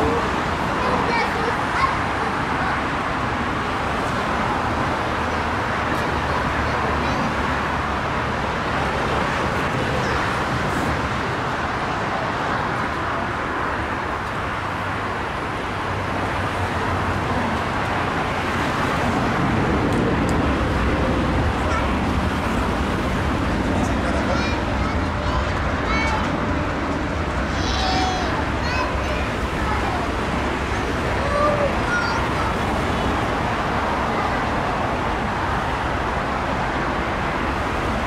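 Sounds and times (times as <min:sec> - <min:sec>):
distant jet engines roaring: 0:00.0 - 0:38.0.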